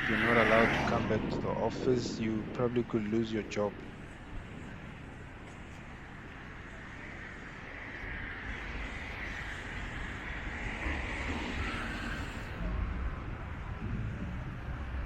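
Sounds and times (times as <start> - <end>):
road traffic hiss and rumble: 0.0 - 15.0.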